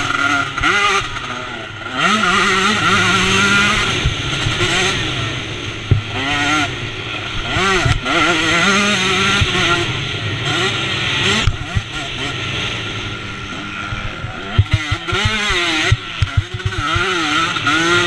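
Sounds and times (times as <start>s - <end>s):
motocross engine revving: 0.0s - 18.0s.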